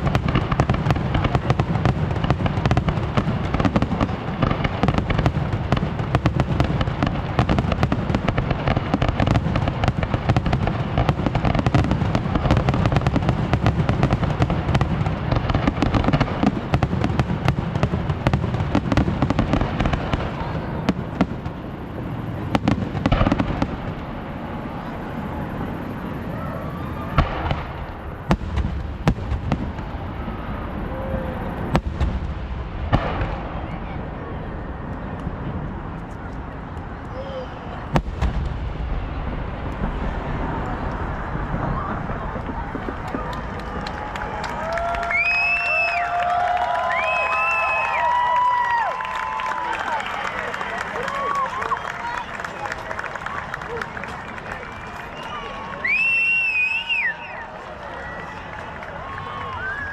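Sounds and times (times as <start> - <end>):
fireworks booms: 0.0 - 57.5
fireworks bangs and crackles: 0.0 - 59.9.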